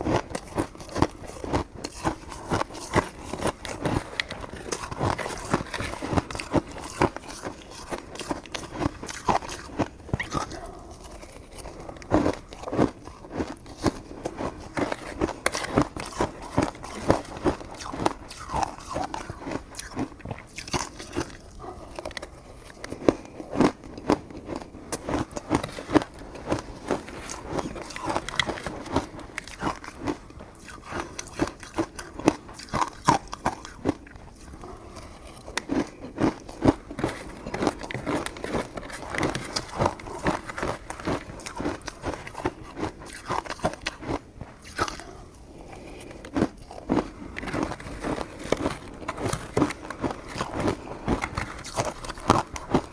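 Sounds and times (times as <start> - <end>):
chewing mouth clicks and smacks: 0.0 - 52.9.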